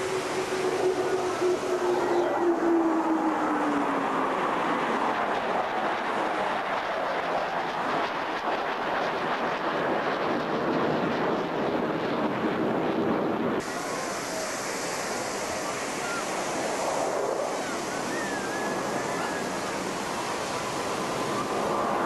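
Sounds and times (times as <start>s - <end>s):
faint gliding whines: 0.0s - 11.5s, 13.2s - 22.0s
military jets flying overhead: 0.0s - 22.0s
wind on microphone: 0.0s - 22.0s.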